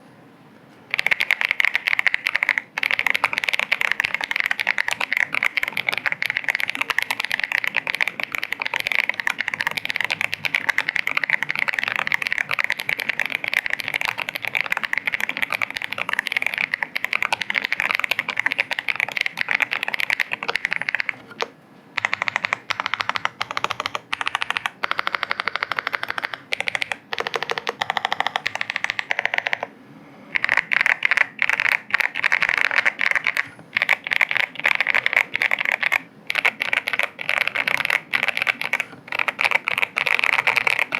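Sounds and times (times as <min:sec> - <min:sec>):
fast mechanical keyboard typing: 0:00.9 - 0:29.7, 0:30.4 - 0:40.9.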